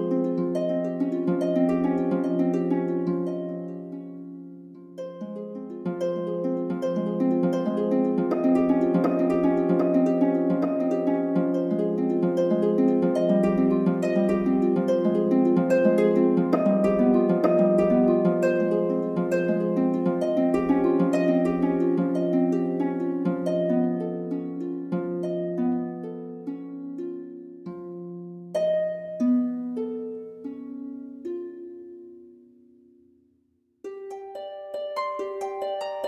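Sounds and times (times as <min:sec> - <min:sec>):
plucked harp-like notes: 0:00.0 - 0:33.1, 0:33.8 - 0:36.0.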